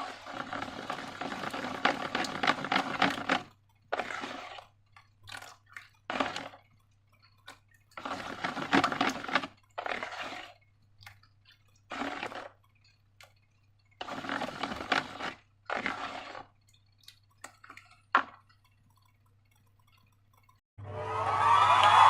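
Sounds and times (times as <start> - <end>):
slime pouring and splashing: 0.0 - 20.6.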